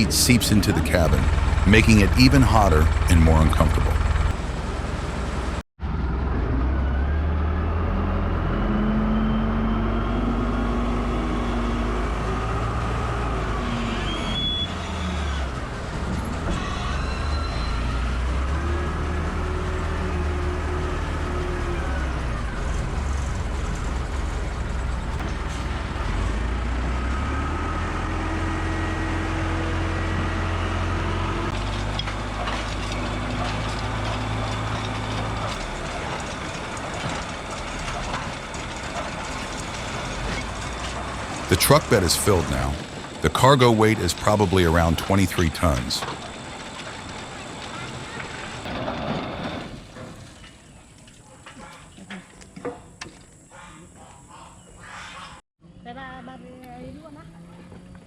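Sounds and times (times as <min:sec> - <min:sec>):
heavy machinery engines running: 0:00.0 - 0:50.6.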